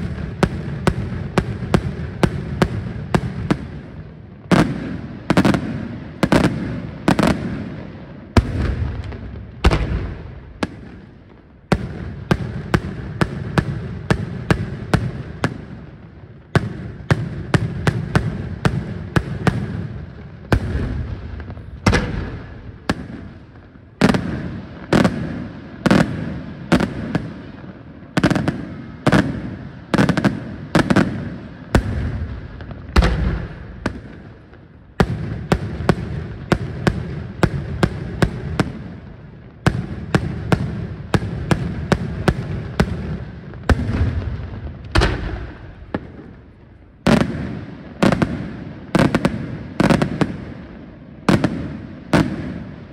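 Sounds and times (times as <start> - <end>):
fireworks bursting with sharp bangs: 0.0 - 52.9.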